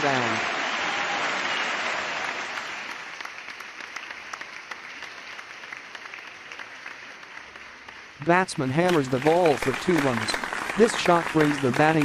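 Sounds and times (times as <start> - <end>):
applause: 0.0 - 12.0.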